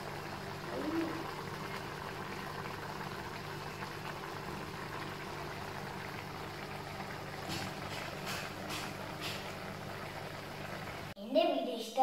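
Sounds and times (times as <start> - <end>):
low hum with hiss: 0.0 - 11.8.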